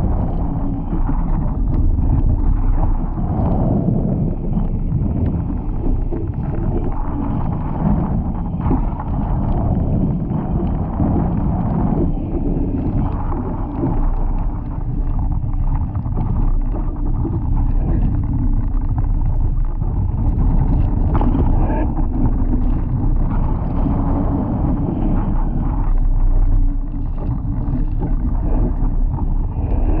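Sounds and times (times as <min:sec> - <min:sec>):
water rushing along a hull: 0:00.0 - 0:30.0
wind noise on microphone: 0:00.0 - 0:30.0.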